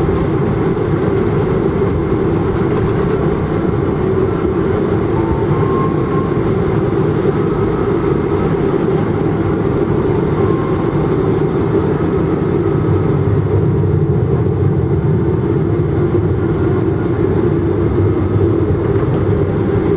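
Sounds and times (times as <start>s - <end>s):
airplane cabin engine noise: 0.0s - 19.9s.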